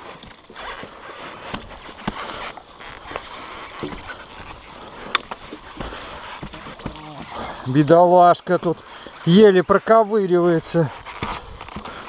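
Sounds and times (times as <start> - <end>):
footsteps on logs and grass: 0.0 - 12.0.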